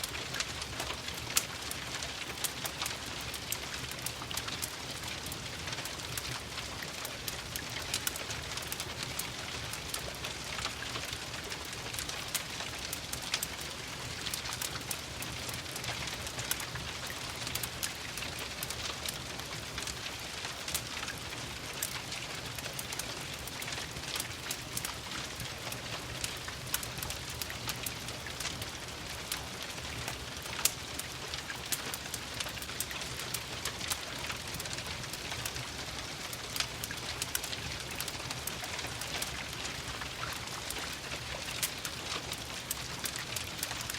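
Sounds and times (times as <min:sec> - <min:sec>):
steady rain: 0:00.0 - 0:43.9
wood fire crackling: 0:00.0 - 0:43.9.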